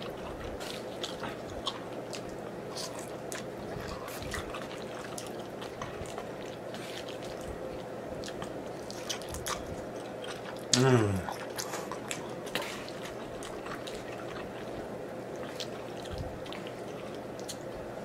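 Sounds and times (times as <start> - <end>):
person chewing noodles: 0.0 - 18.0.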